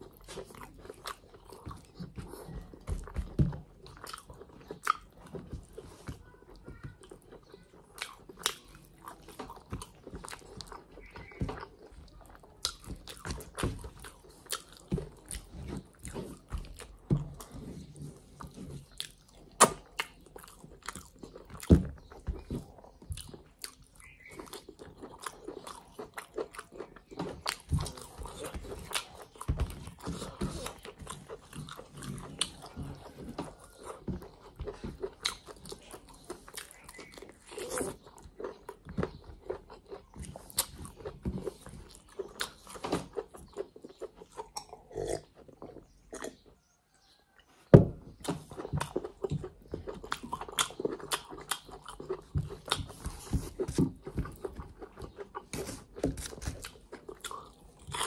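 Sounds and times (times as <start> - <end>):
chewing and lip-smacking: 0.0 - 47.5, 48.1 - 58.0.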